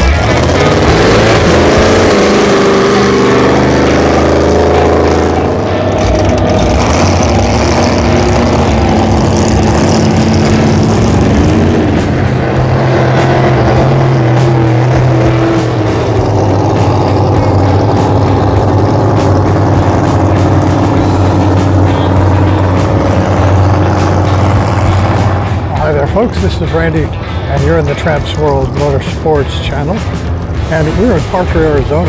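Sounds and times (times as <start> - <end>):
racing boat engines revving: 0.0 - 32.0.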